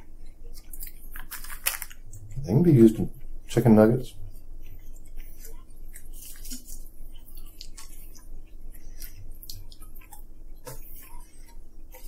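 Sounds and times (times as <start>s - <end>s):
people chewing crunchy food: 0.0s - 3.4s, 4.1s - 12.0s.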